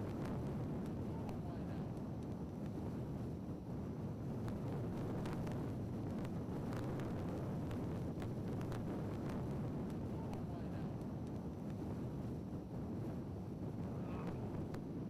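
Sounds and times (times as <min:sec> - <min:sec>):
blizzard wind rumble: 0:00.0 - 0:15.0.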